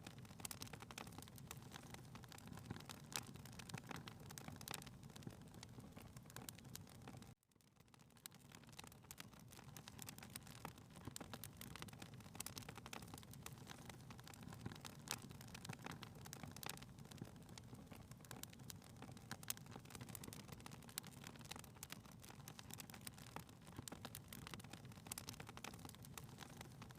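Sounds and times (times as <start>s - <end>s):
fireplace fire crackling: 0.0s - 26.9s.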